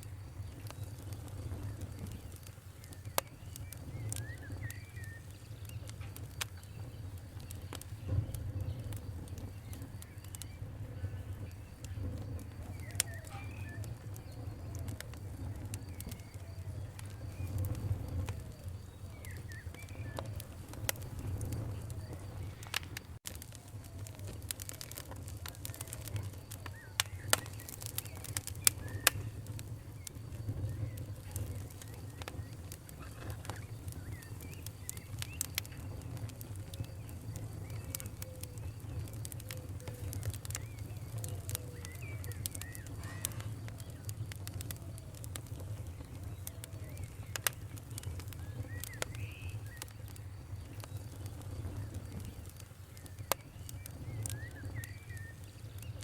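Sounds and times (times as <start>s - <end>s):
birds calling faintly: 0.0s - 56.0s
campfire crackling and popping: 0.0s - 56.0s
low rumble of burning wood: 0.0s - 56.0s.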